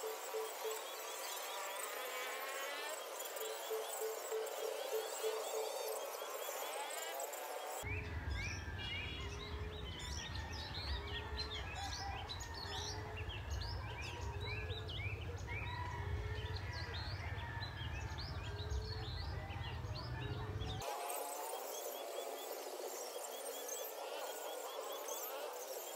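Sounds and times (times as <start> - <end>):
small birds chirping: 0.0 - 15.9, 17.5 - 25.9.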